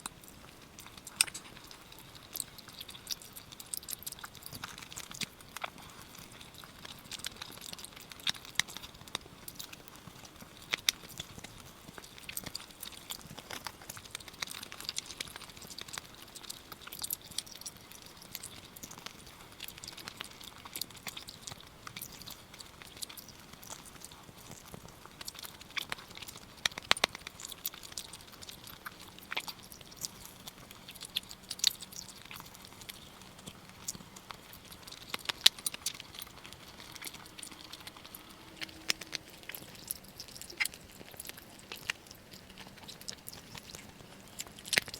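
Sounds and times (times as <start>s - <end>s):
chewing with mouth smacks: 0.0s - 44.9s.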